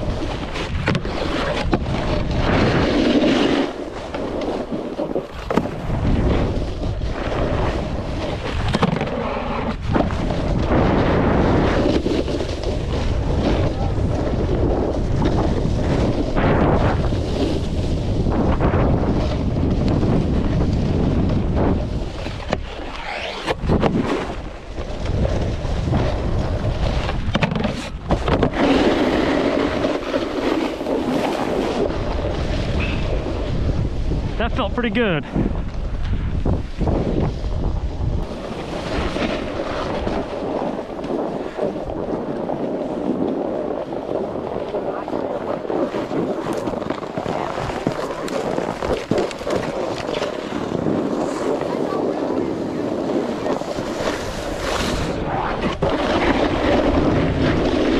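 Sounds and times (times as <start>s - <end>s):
snowboard sliding on snow: 0.0s - 57.9s
wind buffeting microphone: 0.0s - 57.9s.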